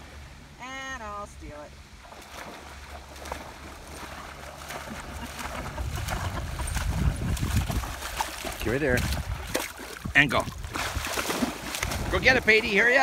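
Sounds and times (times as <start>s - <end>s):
dog splashing through water: 2.0s - 13.0s.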